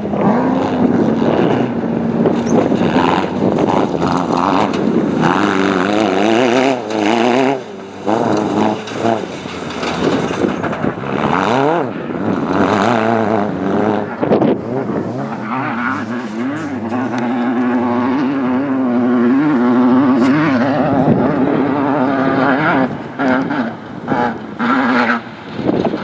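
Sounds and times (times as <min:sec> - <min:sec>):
race vehicle engines revving: 0:00.0 - 0:26.0.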